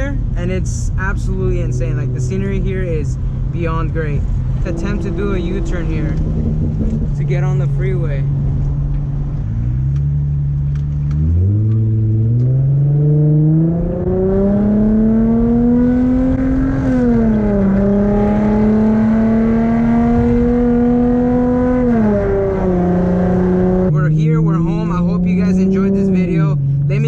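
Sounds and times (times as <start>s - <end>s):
car engine accelerating: 0.0s - 27.0s
gear upshift: 1.5s - 24.0s.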